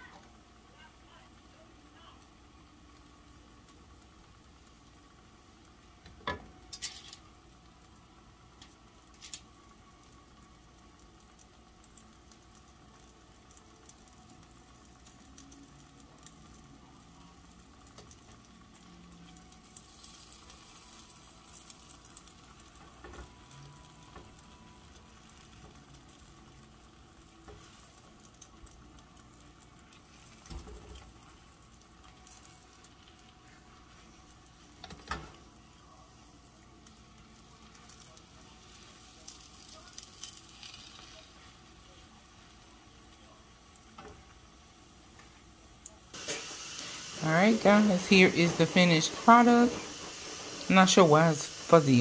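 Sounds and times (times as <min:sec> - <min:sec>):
food sizzling in oil: 0:00.0 - 0:52.0.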